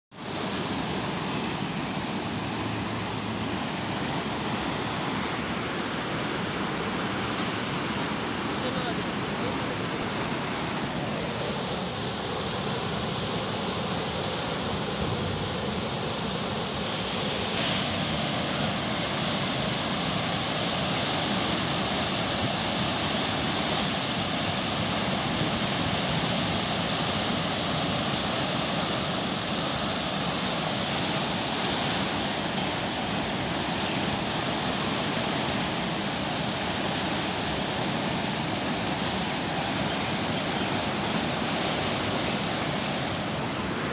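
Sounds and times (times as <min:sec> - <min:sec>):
floodwater rushing and churning: 0:00.1 - 0:43.9.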